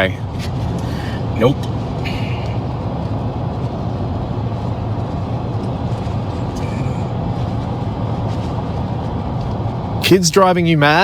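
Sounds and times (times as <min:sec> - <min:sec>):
car tyre and engine rumble: 0:00.0 - 0:11.0.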